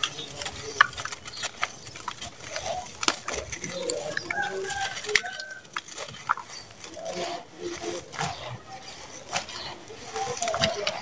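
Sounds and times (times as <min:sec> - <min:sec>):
cement lumps crushed by hand: 0:00.0 - 0:11.0.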